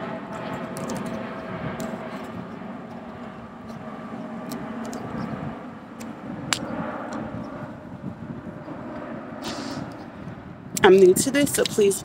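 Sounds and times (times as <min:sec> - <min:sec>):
airplane droning overhead: 0:00.0 - 0:12.0.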